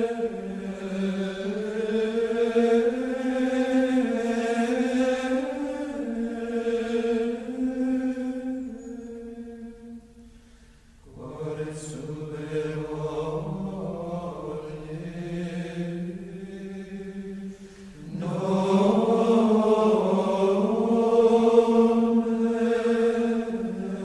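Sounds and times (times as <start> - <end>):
voices chanting slowly: 0.0 - 24.0.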